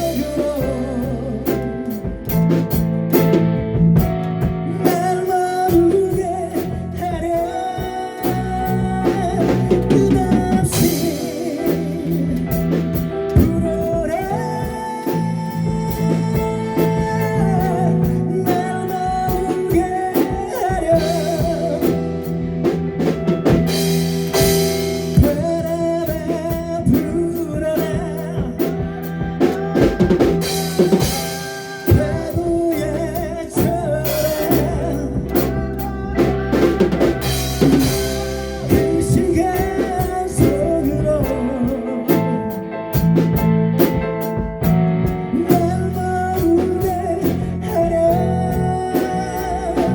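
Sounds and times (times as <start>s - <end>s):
drum kit with cymbal crashes: 0.0s - 47.9s
guitars: 0.0s - 49.9s
person singing: 0.0s - 49.9s.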